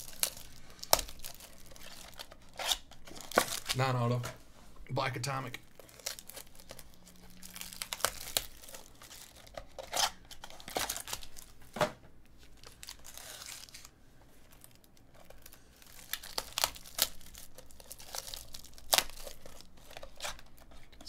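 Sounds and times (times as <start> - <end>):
foil packs tearing and crinkling: 0.0 - 4.2, 5.7 - 11.7, 12.4 - 13.9, 14.5 - 20.9.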